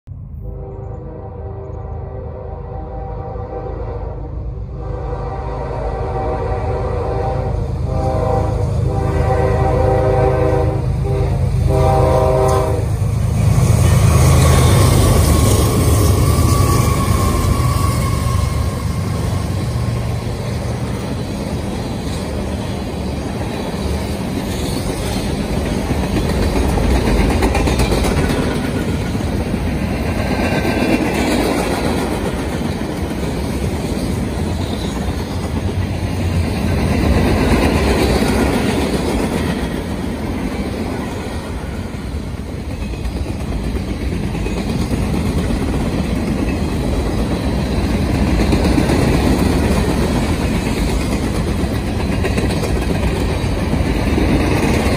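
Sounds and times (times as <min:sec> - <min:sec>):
freight train wheels rumbling on rails: 0:00.1 - 0:54.9.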